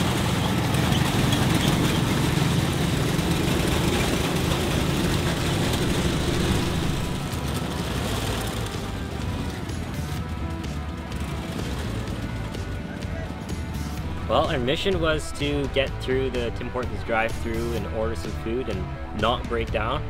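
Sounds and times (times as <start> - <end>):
tank engine droning: 0.0 - 20.0.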